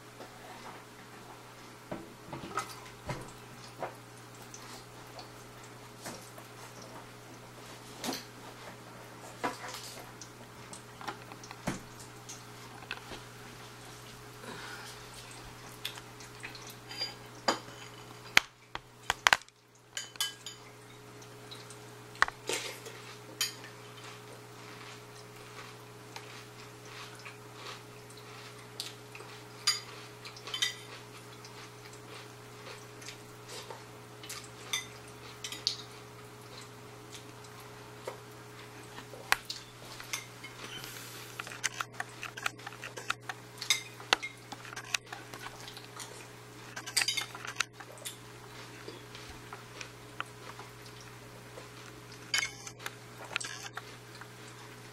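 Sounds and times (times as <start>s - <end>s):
aquarium pump humming: 0.0s - 54.9s.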